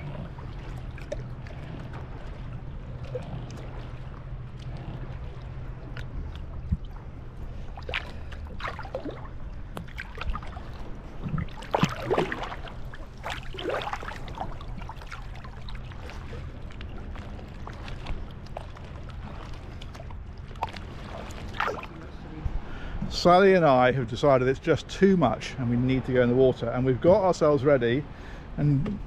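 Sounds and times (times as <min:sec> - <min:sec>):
low hum: 0:00.0 - 0:27.2
water lapping against boat hulls: 0:00.0 - 0:29.0
water splashes: 0:00.0 - 0:29.0.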